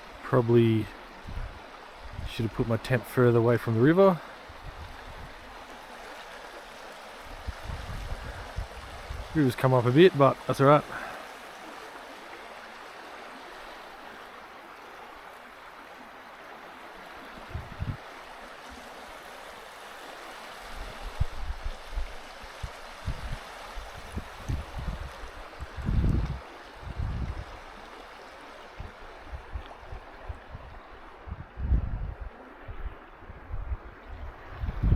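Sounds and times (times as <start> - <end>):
river rushing: 0.0 - 31.4.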